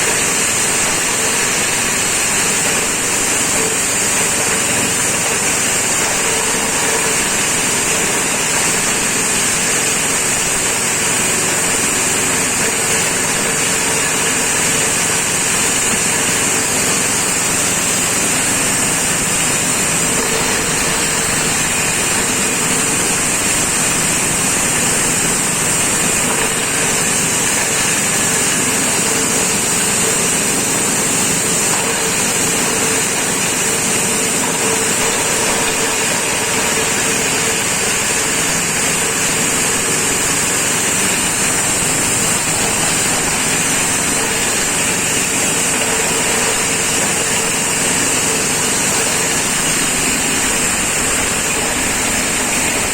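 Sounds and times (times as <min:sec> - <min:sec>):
grinder machine running: 0:00.0 - 0:52.9
high hiss: 0:00.0 - 0:52.9.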